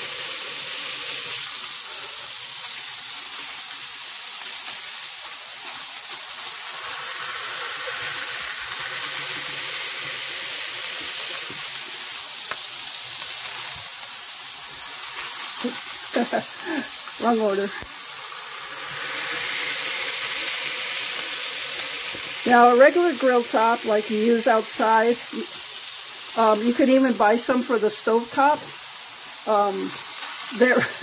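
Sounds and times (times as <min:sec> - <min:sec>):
meat sizzling on griddle: 0:00.0 - 0:31.0.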